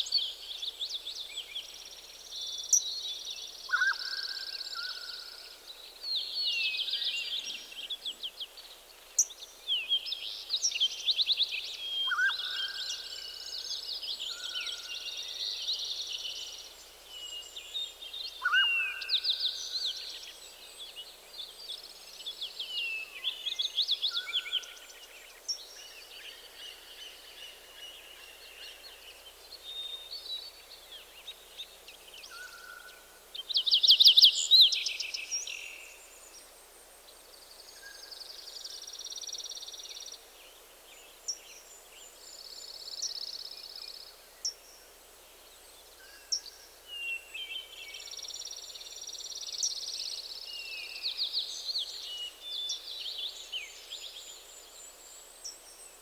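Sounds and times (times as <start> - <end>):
soft steady hiss: 0.0 - 56.0.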